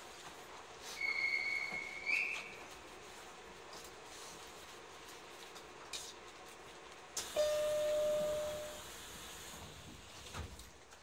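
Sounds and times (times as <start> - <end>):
train car hum: 0.0 - 11.0.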